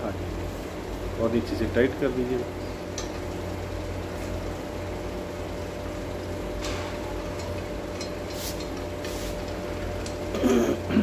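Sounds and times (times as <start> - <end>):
mechanical hum with thin tone: 0.0 - 11.0.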